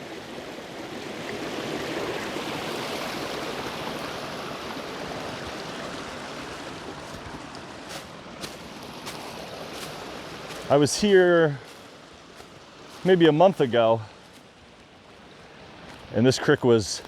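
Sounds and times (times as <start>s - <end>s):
creek water rushing over rocks: 0.0s - 17.0s.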